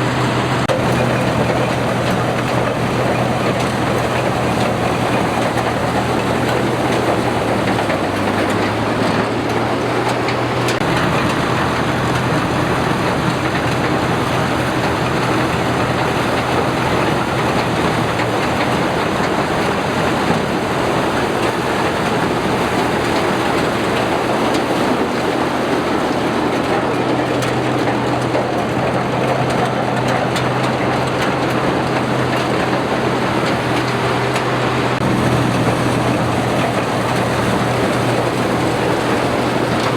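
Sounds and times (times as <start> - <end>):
harvester engine hum: 0.0 - 39.9
machinery clatter: 0.0 - 39.9.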